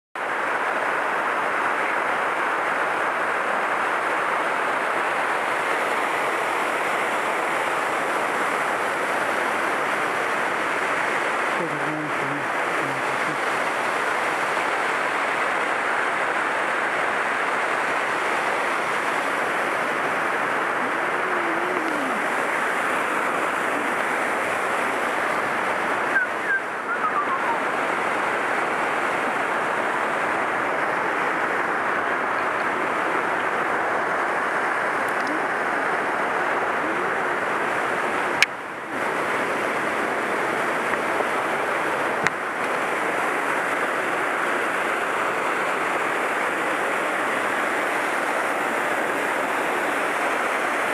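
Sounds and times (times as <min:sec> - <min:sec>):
waterfall cascading over rock: 0:00.2 - 0:50.9.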